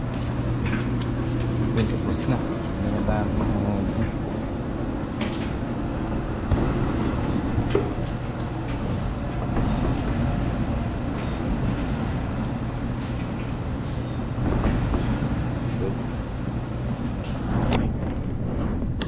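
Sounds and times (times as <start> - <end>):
low hum: 0.0 - 19.0
low mechanical rumble: 0.0 - 19.0.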